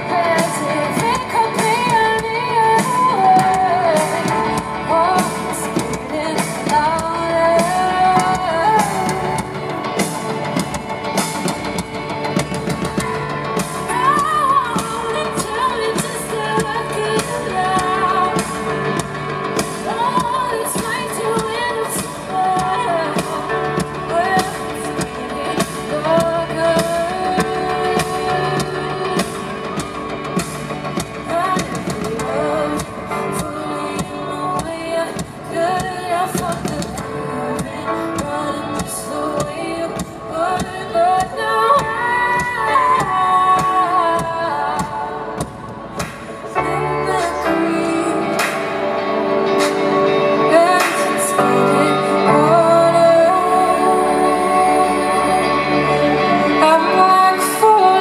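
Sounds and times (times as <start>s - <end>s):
guitar: 0.0s - 58.0s
woman singing into a microphone: 0.0s - 58.0s.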